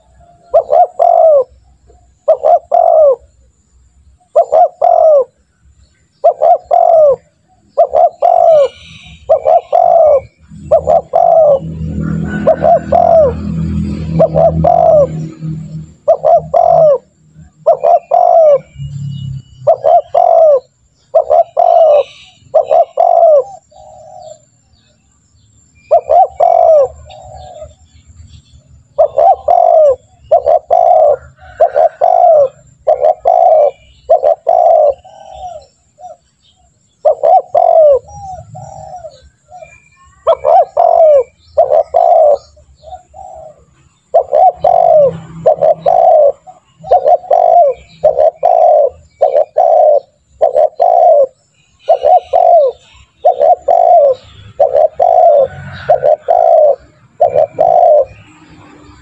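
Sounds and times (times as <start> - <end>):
dove cooing: 0.0 - 3.4, 4.2 - 5.5, 6.2 - 18.8, 19.6 - 24.6, 25.8 - 28.0, 28.9 - 59.0.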